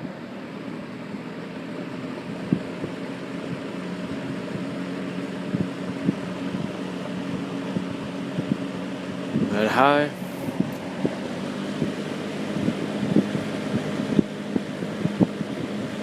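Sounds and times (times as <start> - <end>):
box fan motor hum and whoosh: 0.0 - 16.0.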